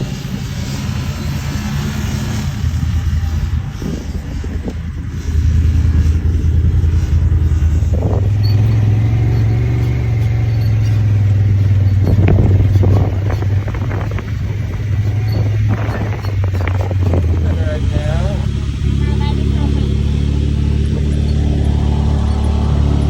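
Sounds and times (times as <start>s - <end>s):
vehicle engine low drone: 0.0s - 23.0s.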